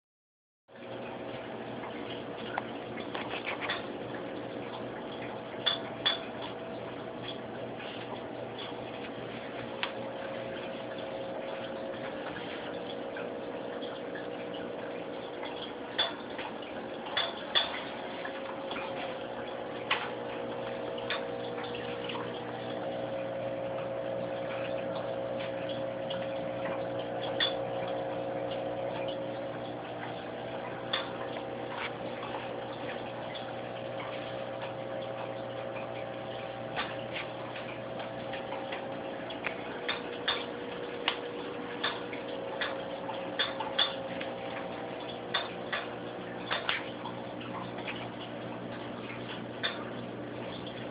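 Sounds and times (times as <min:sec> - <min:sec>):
aquarium filter humming: 0:00.7 - 0:50.9.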